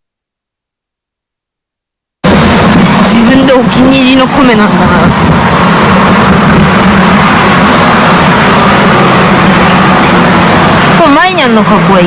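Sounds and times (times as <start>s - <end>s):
heavy vehicle engine drone: 2.2s - 12.0s.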